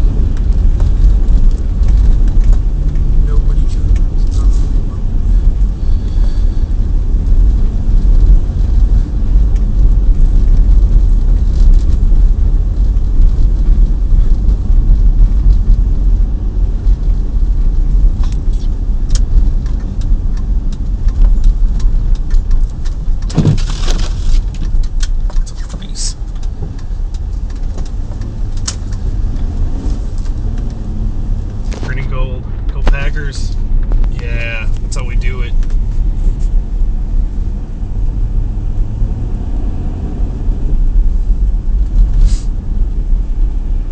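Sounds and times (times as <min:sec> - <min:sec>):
engine and tyres on snow rumble: 0:00.0 - 0:43.9.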